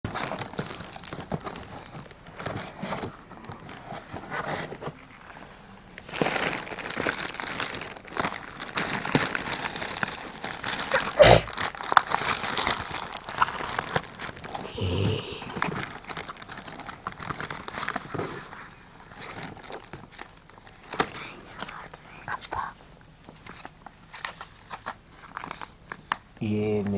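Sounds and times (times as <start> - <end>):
cardboard rustling: 0.1 - 14.7, 15.5 - 26.2
plastic mailer crinkling: 0.1 - 22.7, 23.3 - 26.2.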